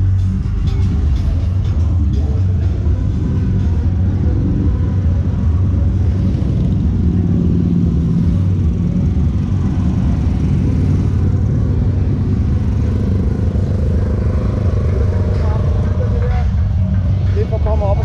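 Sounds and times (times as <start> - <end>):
road traffic rumble: 0.0 - 18.0
vehicle engine passing: 0.0 - 18.0.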